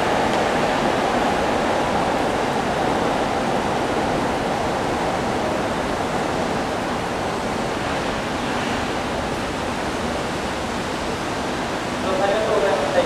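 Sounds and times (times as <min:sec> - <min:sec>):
electric trains rolling over tracks: 0:00.0 - 0:13.0.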